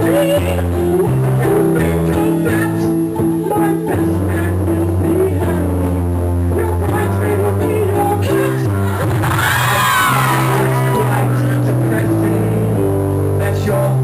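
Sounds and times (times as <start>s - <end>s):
busy music melody: 0.0s - 14.0s
sustained bass notes: 0.0s - 14.0s.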